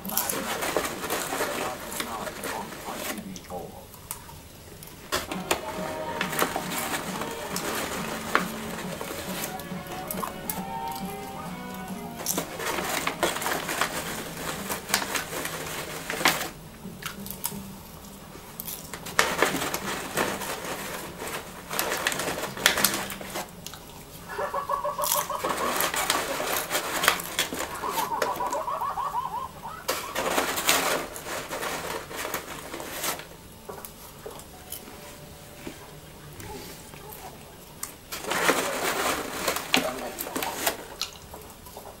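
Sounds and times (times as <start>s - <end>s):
popcorn being munched: 0.0s - 34.8s, 36.4s - 42.0s
popcorn bag rustling: 0.0s - 42.0s.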